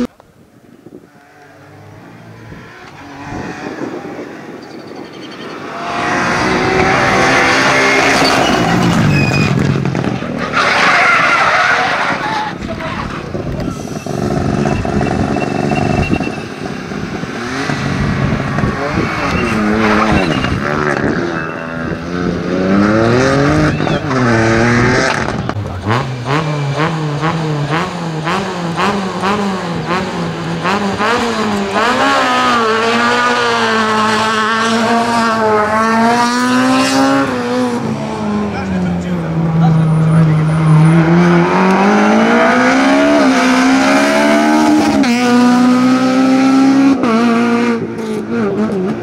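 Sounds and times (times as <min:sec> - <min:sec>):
rally car engine revving: 0:01.0 - 0:49.0.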